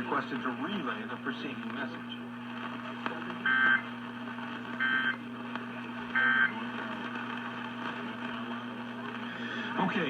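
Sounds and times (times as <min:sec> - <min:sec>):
steady radio hum: 0:00.0 - 0:10.0.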